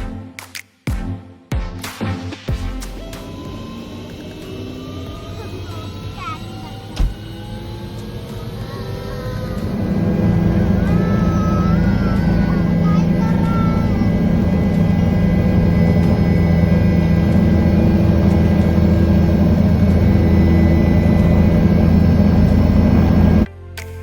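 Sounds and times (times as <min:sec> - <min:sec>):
helicopter rotor and engine drone: 0:02.9 - 0:23.5.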